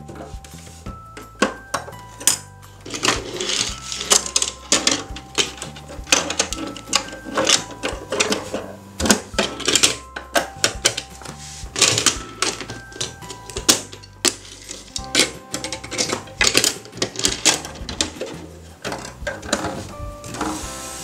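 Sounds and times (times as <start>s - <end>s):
simple background tune: 0.0s - 21.0s
plastic toy doors clicking: 1.2s - 11.1s, 11.8s - 19.9s.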